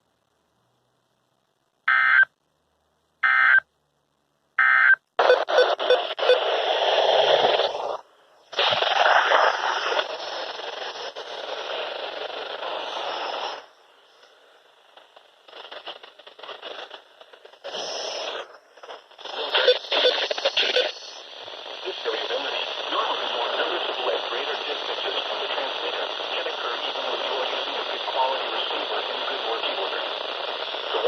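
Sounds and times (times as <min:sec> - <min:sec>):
radio static: 0:04.6 - 0:31.0.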